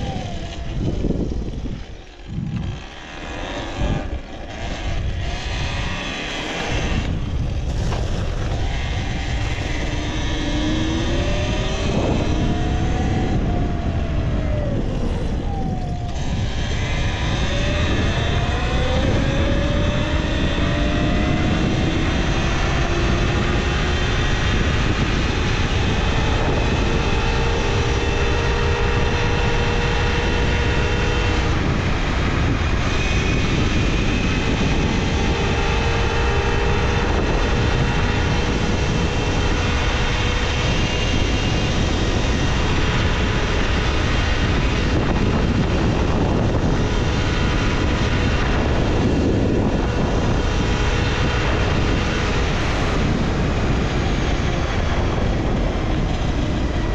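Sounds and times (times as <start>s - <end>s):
electric motor whine: 0.0s - 56.9s
wind noise on microphone: 0.0s - 56.9s.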